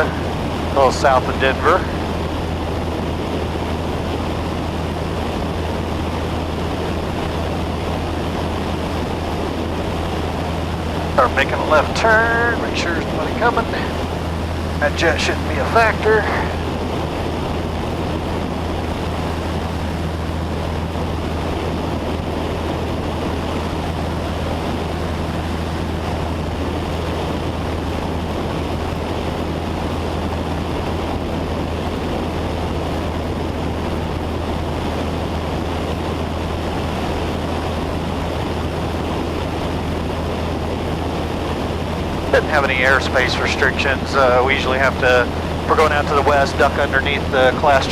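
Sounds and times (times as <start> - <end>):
airplane engine droning: 0.0 - 47.9.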